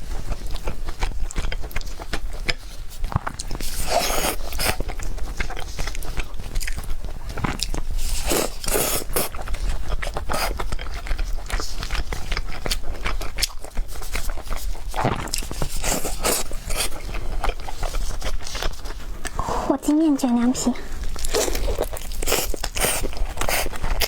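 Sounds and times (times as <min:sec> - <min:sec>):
person chewing: 0:00.1 - 0:24.0
crunching and scraping: 0:01.3 - 0:24.0.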